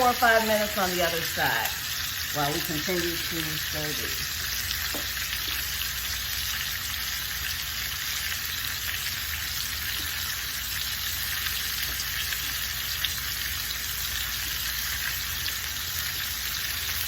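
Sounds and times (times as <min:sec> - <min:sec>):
meat and vegetables sizzling: 0:00.0 - 0:17.0.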